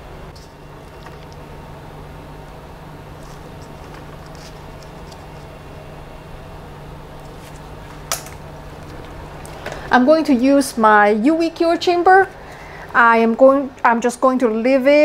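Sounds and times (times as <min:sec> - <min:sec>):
low hum and hiss of machine noise: 0:00.0 - 0:15.0.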